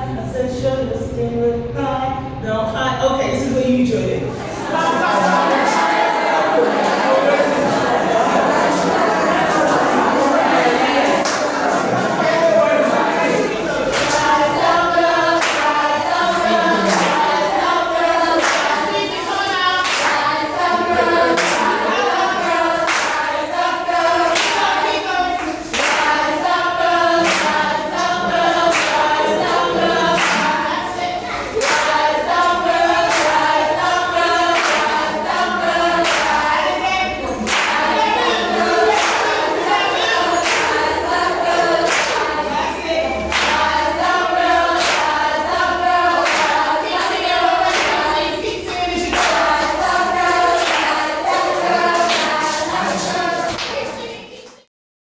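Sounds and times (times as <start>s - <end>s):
students singing in chorus: 4.3s - 54.6s
rhythmic hand claps: 4.6s - 54.7s.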